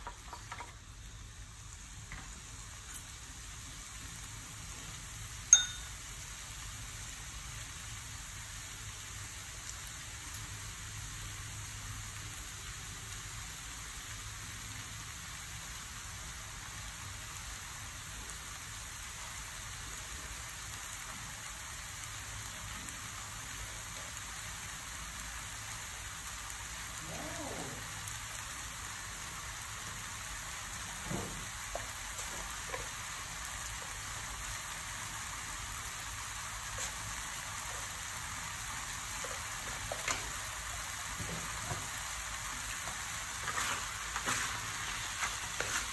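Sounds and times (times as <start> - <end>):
noodles sizzling in a pan: 0.0 - 45.9.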